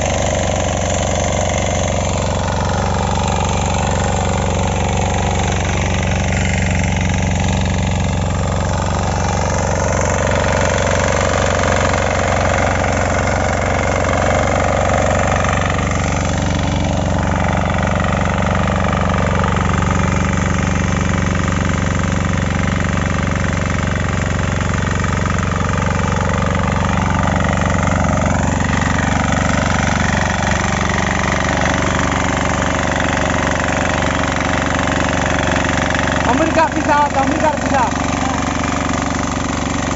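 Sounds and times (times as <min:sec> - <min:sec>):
small cultivator engine running: 0:00.0 - 0:39.9.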